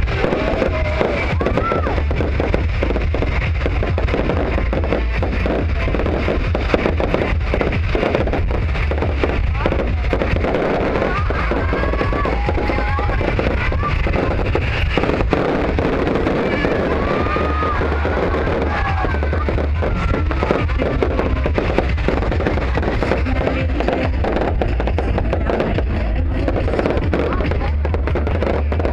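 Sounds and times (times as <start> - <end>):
fireworks bursting: 0.0 - 28.9
music playing: 0.0 - 28.9.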